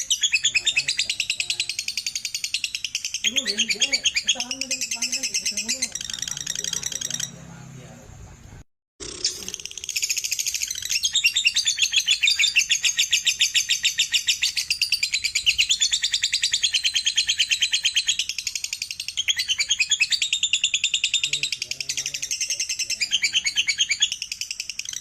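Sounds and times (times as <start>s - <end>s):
lovebird chattering: 0.0s - 7.5s, 9.0s - 25.0s.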